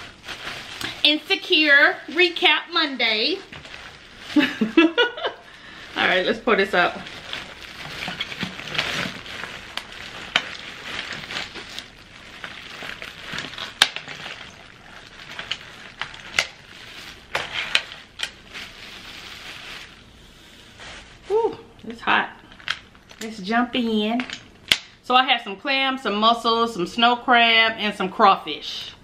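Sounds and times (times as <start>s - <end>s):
plastic bag crinkling: 0.0s - 23.4s.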